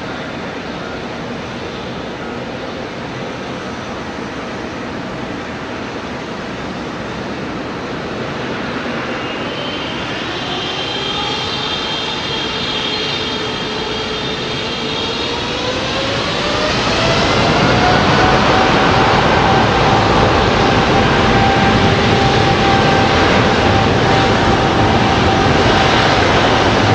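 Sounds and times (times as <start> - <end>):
jet airliner engines whining: 0.0 - 26.9.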